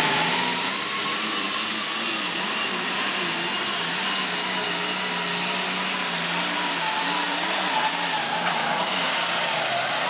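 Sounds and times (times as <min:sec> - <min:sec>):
diesel tractor engine running hard: 0:00.0 - 0:10.0
high turbo whine: 0:00.0 - 0:10.0.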